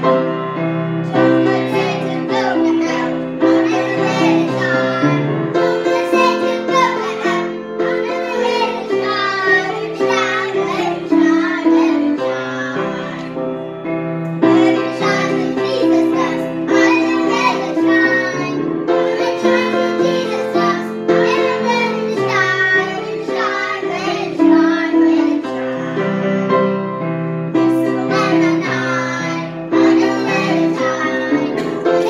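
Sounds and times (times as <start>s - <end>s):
grand piano accompaniment: 0.0s - 32.0s
woman and children singing gospel: 1.1s - 13.5s, 14.4s - 26.8s, 27.6s - 32.0s.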